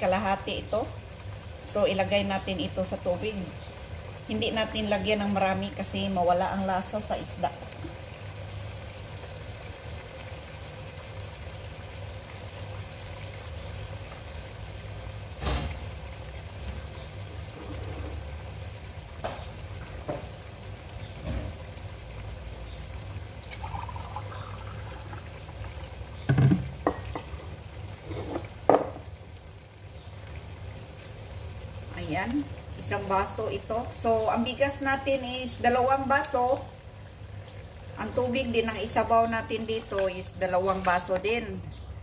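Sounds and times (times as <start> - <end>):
stew sizzling and simmering: 0.0 - 42.0.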